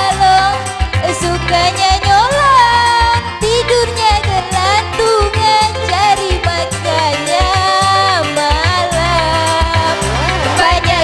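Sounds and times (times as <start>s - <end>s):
keyboard melody bending in pitch: 0.0s - 11.0s
repeating bass pattern: 0.0s - 11.0s.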